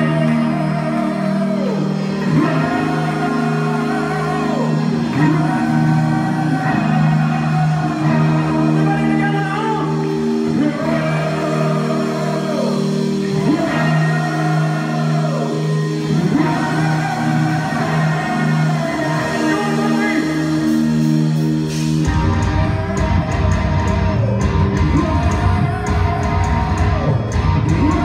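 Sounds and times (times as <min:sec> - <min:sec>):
held guitar chords: 0:00.0 - 0:28.0
thrash metal band playing: 0:00.0 - 0:28.0.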